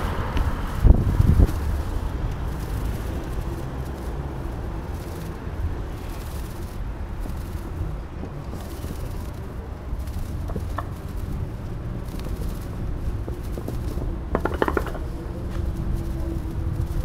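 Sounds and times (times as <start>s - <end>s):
traffic: 0.0s - 17.0s
wind on microphone: 0.0s - 17.0s.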